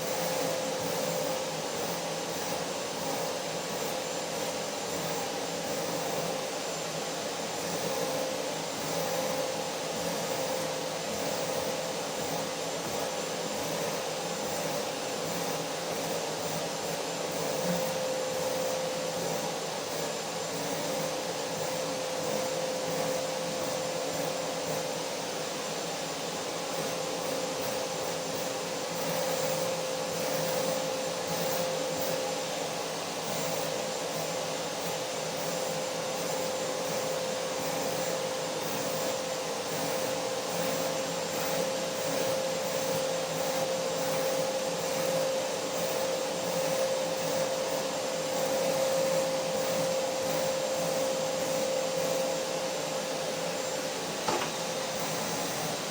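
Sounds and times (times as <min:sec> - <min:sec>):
vacuum cleaner motor running: 0:00.0 - 0:55.9.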